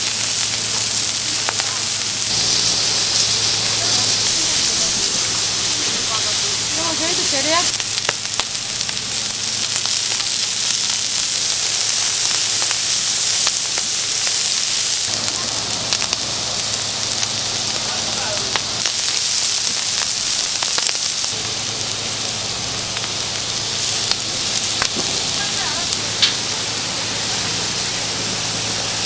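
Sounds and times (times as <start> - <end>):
skewers sizzling on a griddle: 0.0 - 29.0.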